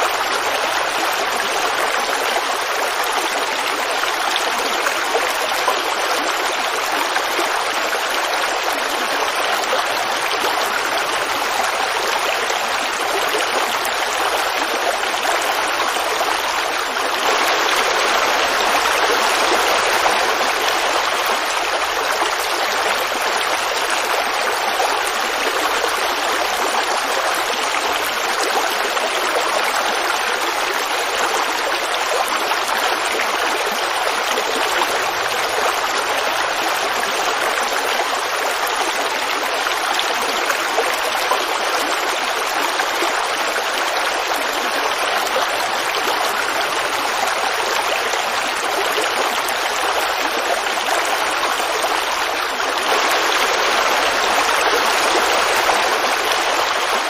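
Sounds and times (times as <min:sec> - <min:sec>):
creek water babbling: 0:00.0 - 0:57.0.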